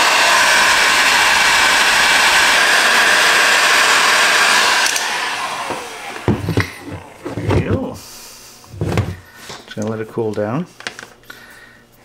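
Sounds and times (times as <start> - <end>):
heat gun fan whining: 0.0 - 11.5.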